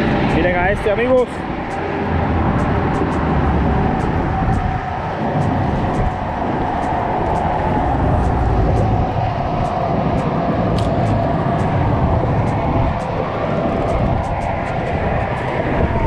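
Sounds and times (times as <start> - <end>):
loud rumbling background noise: 0.0 - 16.0.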